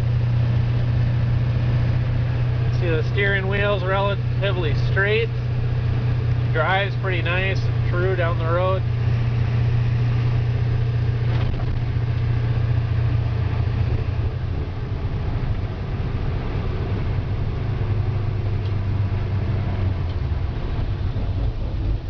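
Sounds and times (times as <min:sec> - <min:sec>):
road noise: 0:00.0 - 0:22.0
truck diesel engine running: 0:00.0 - 0:22.0.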